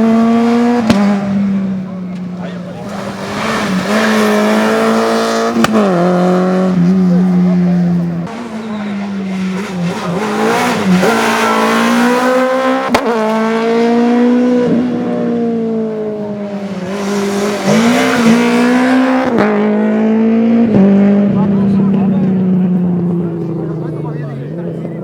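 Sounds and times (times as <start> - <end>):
rally car engine at high revs: 0.0 - 25.0.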